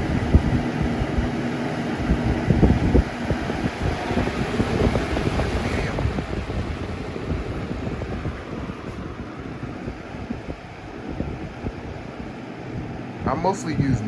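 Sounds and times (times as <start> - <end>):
box fan airflow rushing: 0.0 - 14.0.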